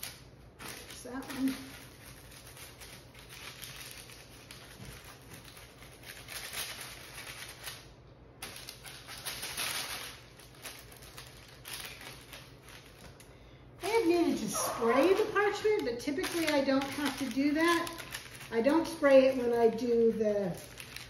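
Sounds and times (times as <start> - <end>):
parchment paper rustling: 0.0 - 21.0.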